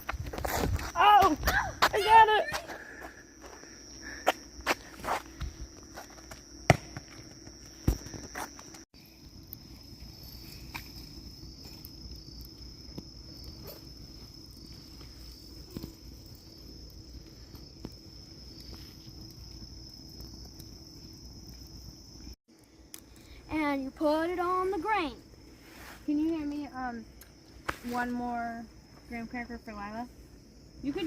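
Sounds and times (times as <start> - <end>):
night insects chirring: 0.0 - 31.0.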